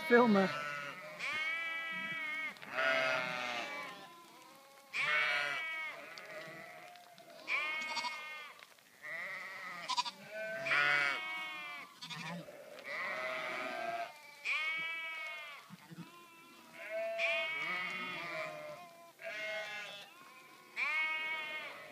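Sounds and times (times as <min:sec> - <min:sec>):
sheep bleating: 0:00.0 - 0:21.9.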